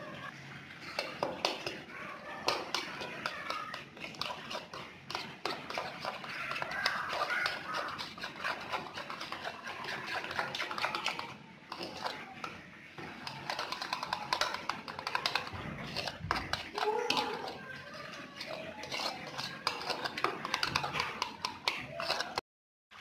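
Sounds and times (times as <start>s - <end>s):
spoon scraping ceramic bowl: 2.4s - 22.4s.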